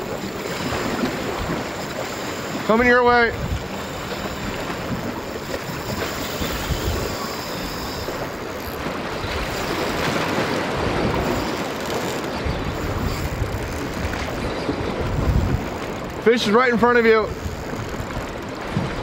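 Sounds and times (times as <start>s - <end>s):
water washing against shore: 0.0s - 19.0s
wind on microphone: 0.0s - 19.0s.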